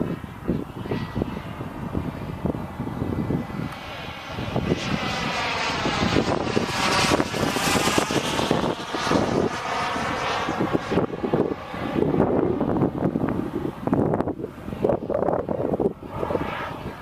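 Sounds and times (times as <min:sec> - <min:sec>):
small jet engine rushing: 0:00.0 - 0:17.0
wind buffeting microphone: 0:00.0 - 0:17.0.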